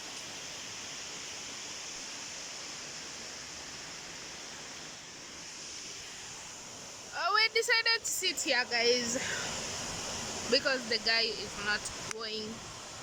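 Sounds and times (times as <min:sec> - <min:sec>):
outdoor ambience hiss: 0:00.0 - 0:13.0.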